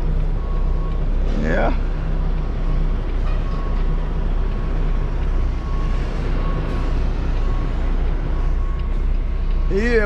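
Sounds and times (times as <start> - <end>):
truck diesel engine humming: 0.0 - 10.0.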